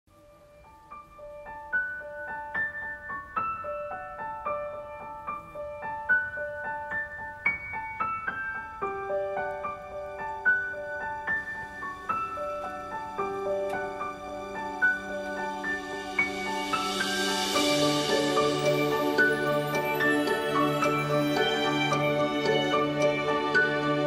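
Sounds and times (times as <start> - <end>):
gentle piano tune: 0.1 - 24.0.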